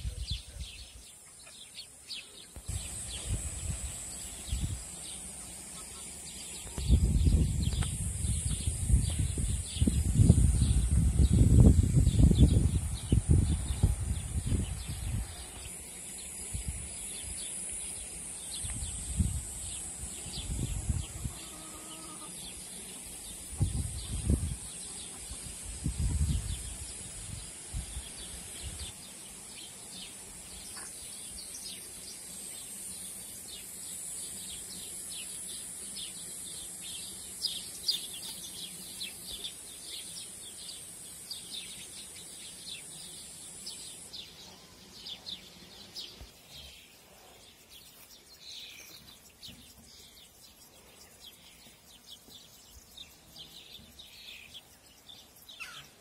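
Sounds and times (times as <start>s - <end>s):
small birds chirping: 0.0s - 56.0s
steady high hiss: 0.0s - 56.0s.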